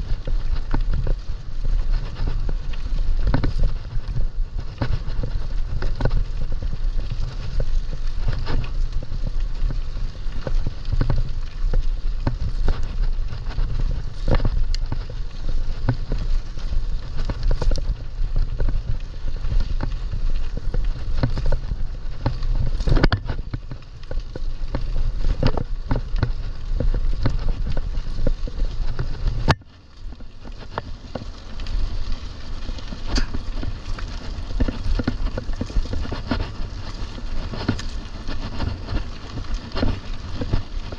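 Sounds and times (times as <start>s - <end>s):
bike clicks and rattles: 0.0s - 40.9s
wind and tyre rumble: 0.0s - 40.9s.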